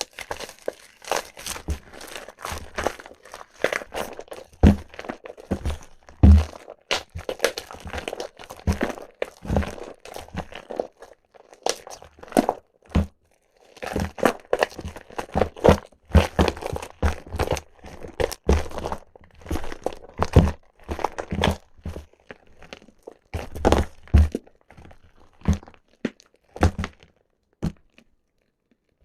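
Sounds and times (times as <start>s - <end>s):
wet soap squishing and crackling: 0.0s - 29.0s.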